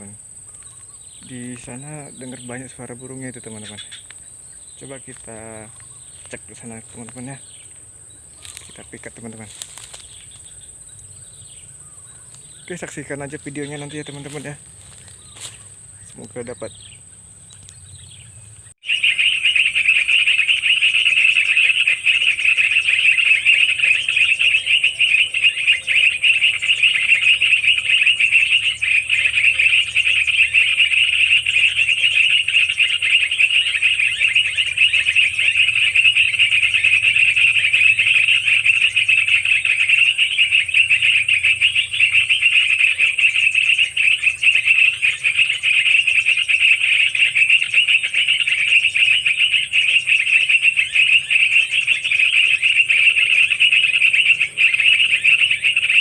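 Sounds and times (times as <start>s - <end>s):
bird chatter from speaker: 0.0s - 56.0s.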